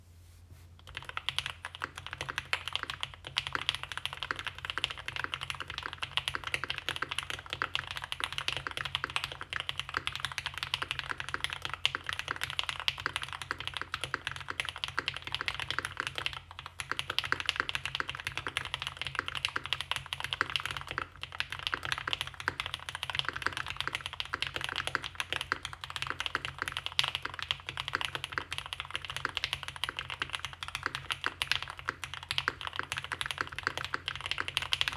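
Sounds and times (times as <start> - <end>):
fast mechanical keyboard typing: 0.9 - 34.9.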